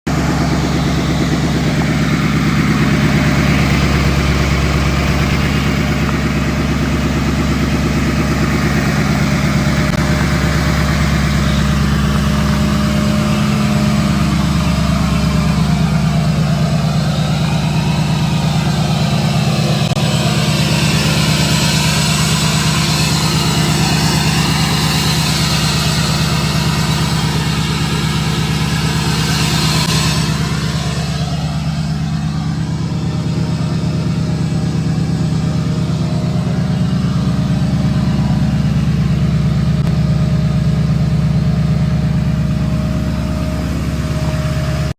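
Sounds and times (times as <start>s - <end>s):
diesel truck engine idling: 0.1s - 44.9s.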